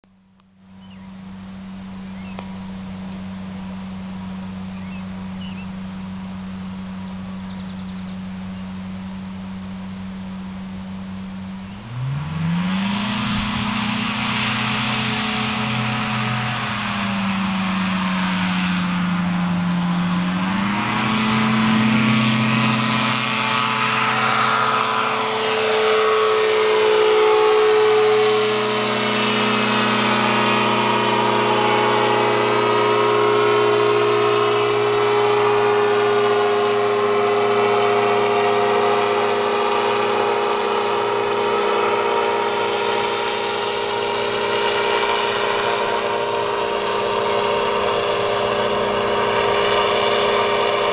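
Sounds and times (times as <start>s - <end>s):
propeller aircraft engine: 0.0s - 50.9s.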